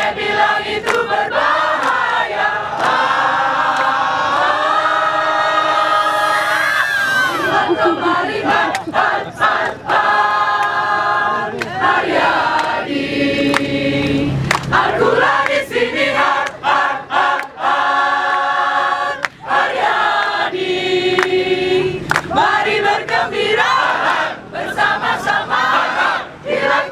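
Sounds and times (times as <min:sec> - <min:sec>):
choir singing: 0:00.0 - 0:06.7, 0:07.3 - 0:26.9.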